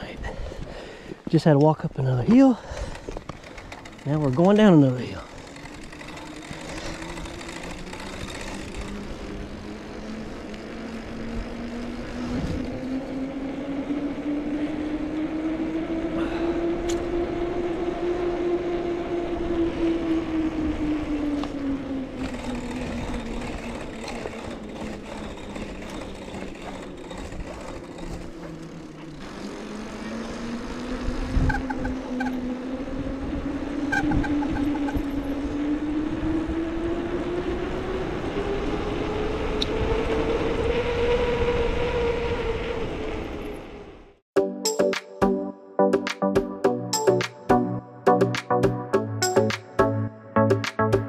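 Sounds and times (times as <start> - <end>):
wind buffeting microphone: 0.0 - 29.0, 30.4 - 44.2
bicycle tyres humming: 0.0 - 44.2.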